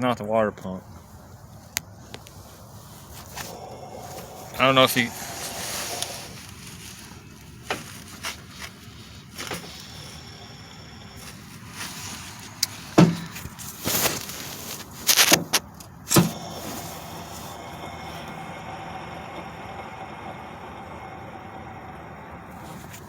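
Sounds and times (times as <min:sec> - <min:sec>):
car engine running: 0:00.6 - 0:23.0.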